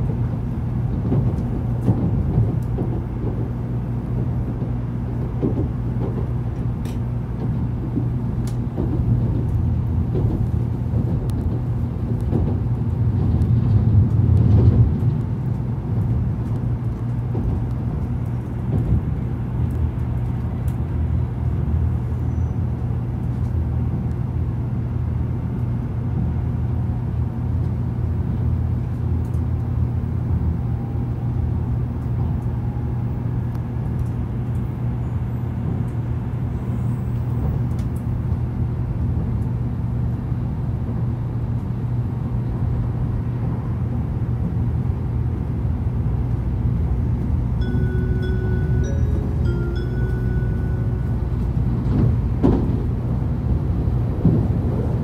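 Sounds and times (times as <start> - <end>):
train running gear rumble: 0.0 - 55.0.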